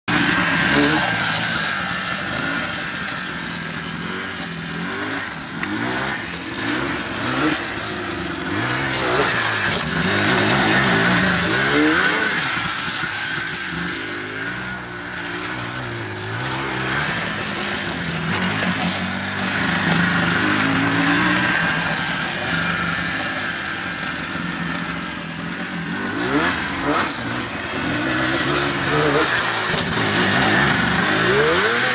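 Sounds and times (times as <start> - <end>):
atv engine revving: 0.1 - 31.9.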